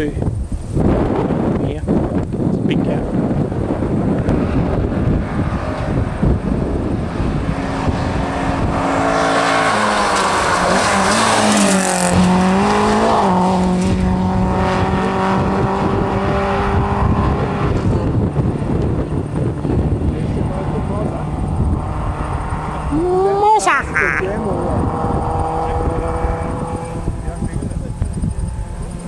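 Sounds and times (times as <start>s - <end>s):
rally car engine at full throttle: 0.0s - 29.0s
wind rumble on microphone: 0.0s - 29.0s.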